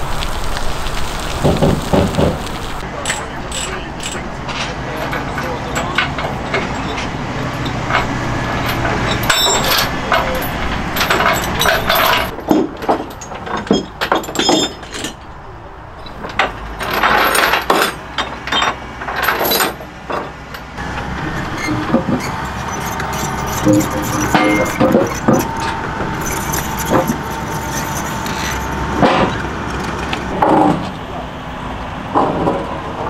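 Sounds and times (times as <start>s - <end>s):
excavator diesel engine running: 0.0s - 12.4s, 15.2s - 33.0s
metallic clanks and rattles: 1.4s - 15.3s, 16.0s - 31.0s.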